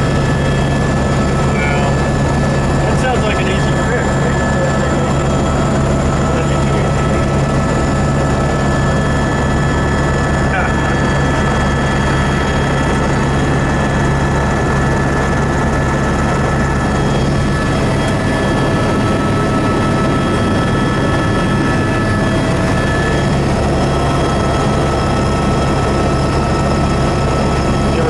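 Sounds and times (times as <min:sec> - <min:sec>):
helicopter engine and rotor drone: 0:00.0 - 0:28.0
steady whining tones: 0:00.0 - 0:28.0.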